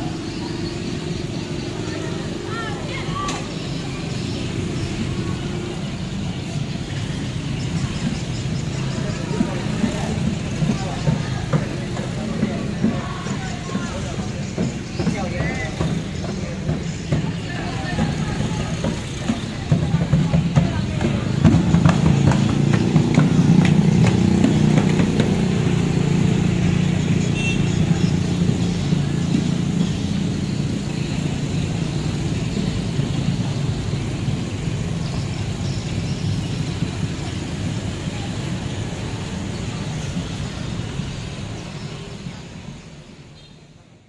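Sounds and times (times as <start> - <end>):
passing vehicles: 0.0 - 44.0.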